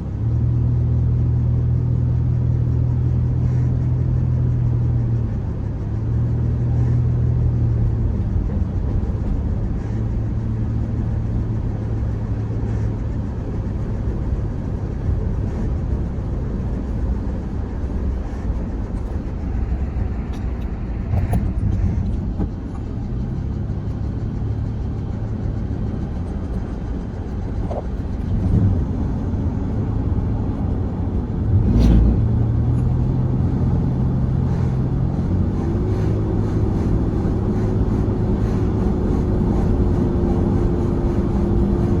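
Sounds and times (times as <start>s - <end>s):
car road and engine rumble: 0.0s - 42.0s
steady hum: 1.6s - 42.0s.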